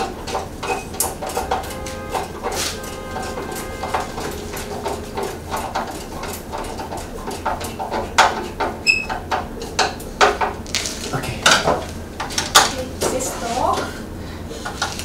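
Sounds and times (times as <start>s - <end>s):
knocks and rattles of metal cover: 0.0s - 13.2s.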